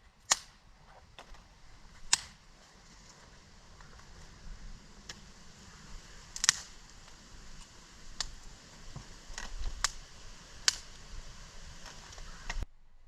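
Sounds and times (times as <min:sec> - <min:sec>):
faint steady hiss: 0:00.0 - 0:13.0
sharp snaps and pops: 0:00.2 - 0:12.6.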